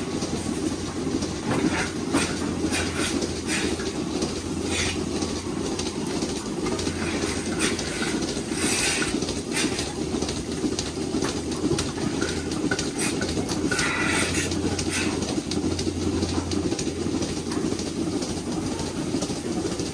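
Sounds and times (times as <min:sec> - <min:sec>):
machinery clicks: 0:00.0 - 0:19.9
milking machinery rumble and hum: 0:00.0 - 0:19.9.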